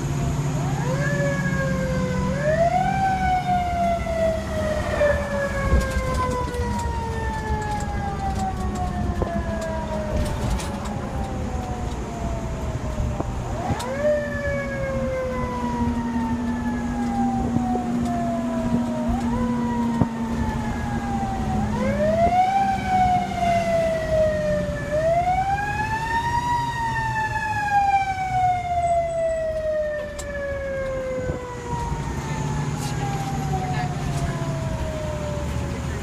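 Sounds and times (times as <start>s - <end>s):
fire engine siren wailing: 0.0s - 36.0s
truck engine running low: 0.0s - 36.0s.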